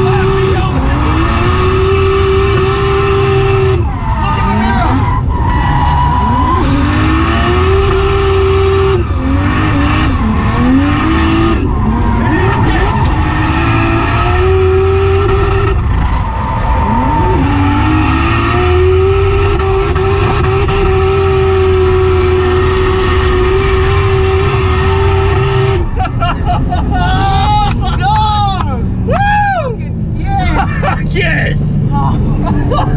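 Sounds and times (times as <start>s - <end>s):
car engine revving: 0.0s - 32.9s
tyre and road noise: 0.0s - 32.9s.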